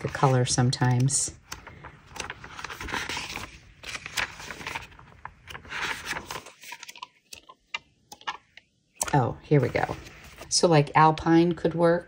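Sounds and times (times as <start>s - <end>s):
notebook pages turning: 0.0s - 8.6s, 9.5s - 10.6s.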